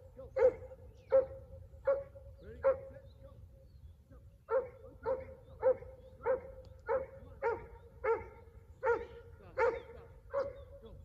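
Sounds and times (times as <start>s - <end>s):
dog barking: 0.3s - 3.0s, 4.5s - 10.7s.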